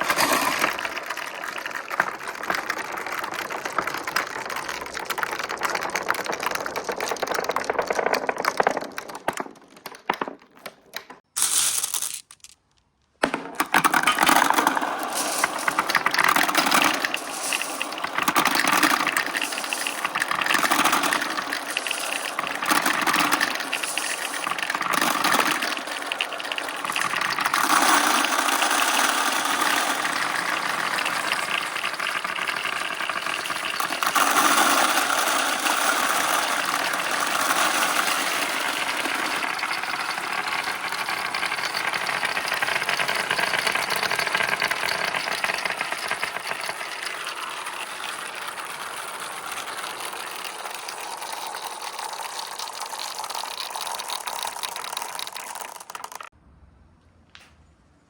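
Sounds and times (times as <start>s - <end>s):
marbles rattling through a track: 0.0s - 56.4s.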